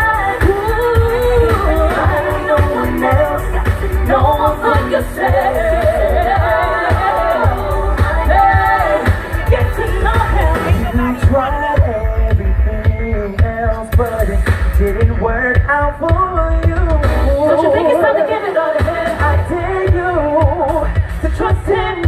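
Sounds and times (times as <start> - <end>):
person singing wordless melody: 0.0 - 22.0
steady drum beat: 0.0 - 22.0.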